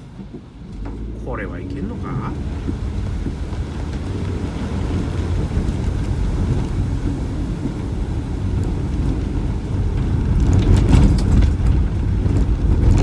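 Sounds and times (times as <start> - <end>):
car driving in heavy rain: 0.0 - 13.0.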